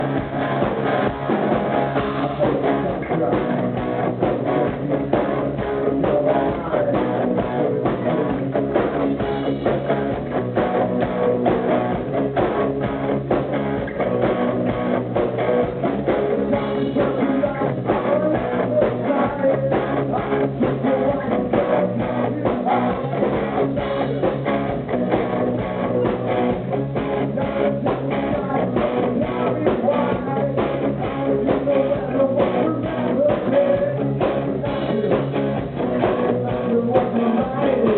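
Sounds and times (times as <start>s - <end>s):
rock band playing live: 0.0s - 37.9s.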